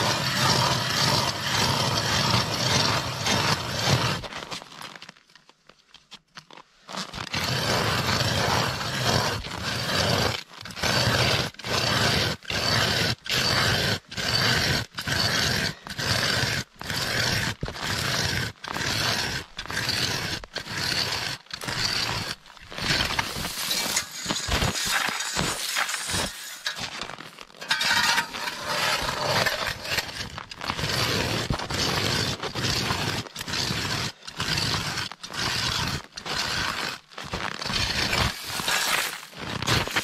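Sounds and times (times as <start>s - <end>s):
ice auger scraping through ice: 0.0s - 5.2s, 6.9s - 40.0s.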